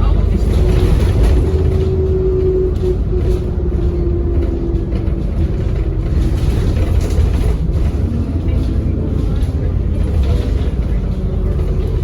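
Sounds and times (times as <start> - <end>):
bus engine rumbling: 0.0 - 12.0
engine whine: 0.0 - 12.0.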